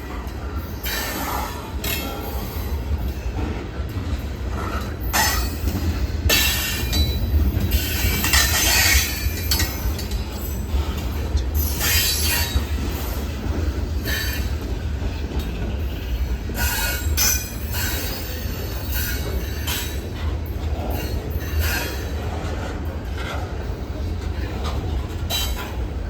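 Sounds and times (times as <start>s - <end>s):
train wheels squealing on rails: 0.0s - 26.0s.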